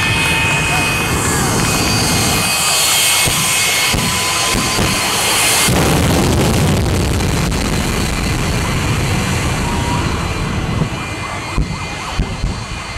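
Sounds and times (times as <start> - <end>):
jet engine roaring: 0.0 - 12.9.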